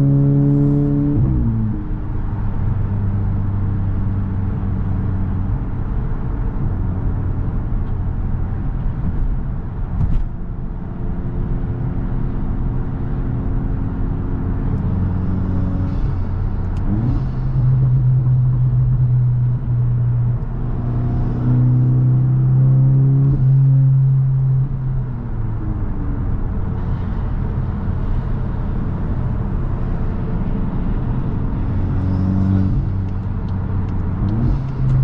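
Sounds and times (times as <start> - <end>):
car engine driving: 0.0 - 35.0.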